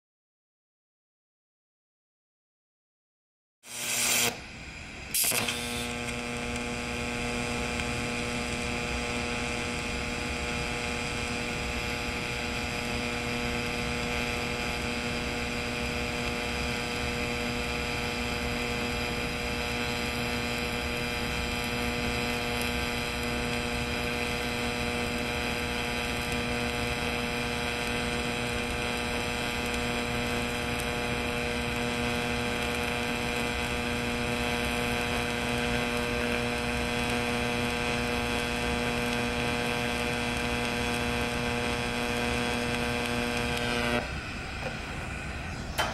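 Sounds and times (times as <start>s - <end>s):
welding arc humming and hissing: 3.6s - 45.9s.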